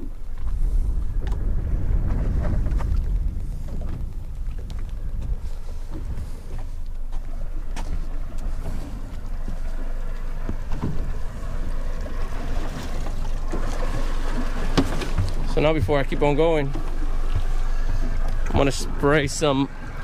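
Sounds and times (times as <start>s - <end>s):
low rumble: 0.0s - 20.0s
water sloshing against hull: 0.0s - 20.0s
wind buffeting microphone: 0.0s - 20.0s.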